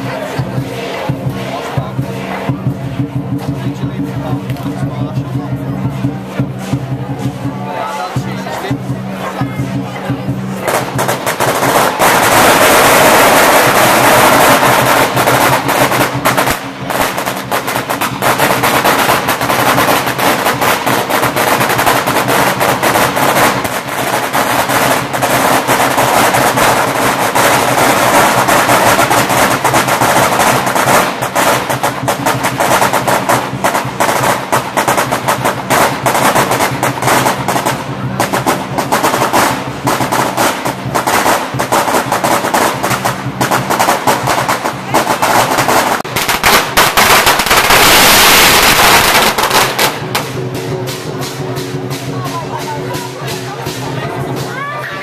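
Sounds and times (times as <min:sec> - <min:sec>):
cymbals crashing: 0:00.0 - 0:55.0
drums beaten fast: 0:00.0 - 0:55.0.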